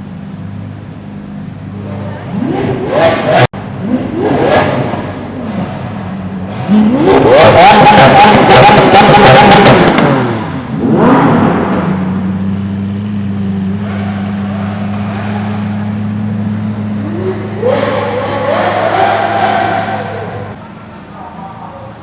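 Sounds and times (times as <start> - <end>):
sports car engine revving: 0.7 - 20.6.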